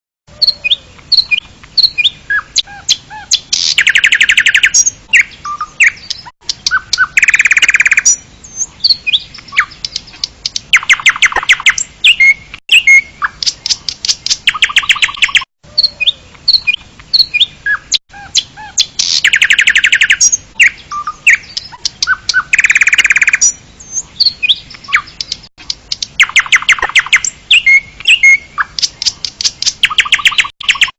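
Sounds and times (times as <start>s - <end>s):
songbird singing: 0.3s - 30.9s.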